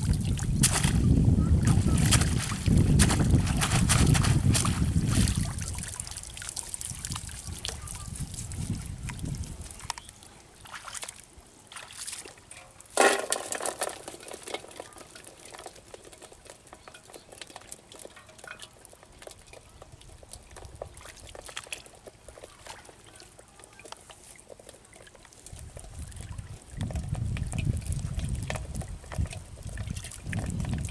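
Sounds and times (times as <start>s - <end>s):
shallow water splashing: 0.0s - 30.9s
water trickling: 0.0s - 30.9s
faint wet clicks: 1.6s - 12.9s, 14.4s - 30.9s.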